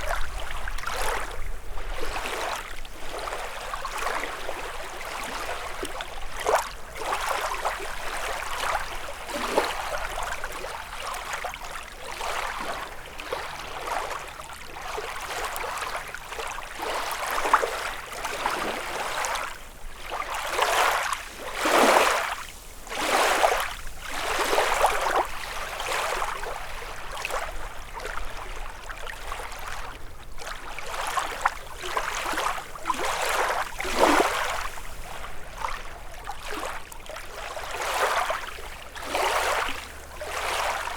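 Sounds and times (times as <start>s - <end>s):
lake waves lapping on shore: 0.0s - 40.9s.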